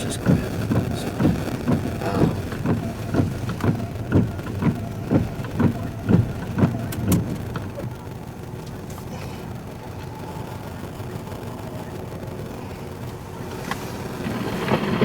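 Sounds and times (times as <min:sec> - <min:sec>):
low thumps inside a vehicle: 0:00.0 - 0:15.0
vehicle running noise: 0:00.0 - 0:15.0.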